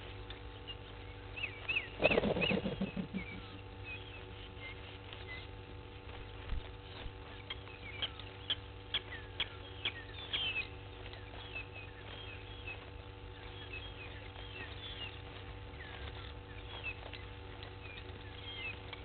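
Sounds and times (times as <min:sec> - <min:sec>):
low electrical hum: 0:00.0 - 0:19.0
small birds chirping: 0:00.0 - 0:19.0.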